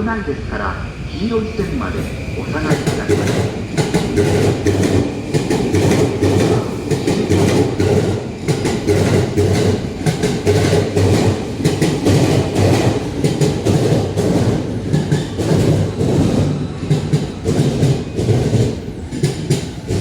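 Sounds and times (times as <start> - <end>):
train wheels rumbling over rails: 0.6 - 20.0.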